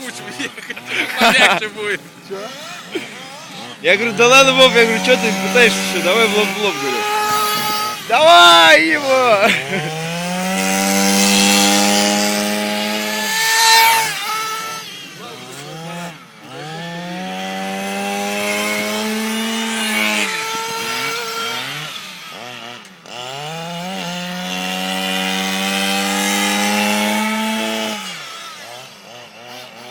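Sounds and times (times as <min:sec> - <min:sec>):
small nitro engine at full throttle: 0:00.0 - 0:29.9.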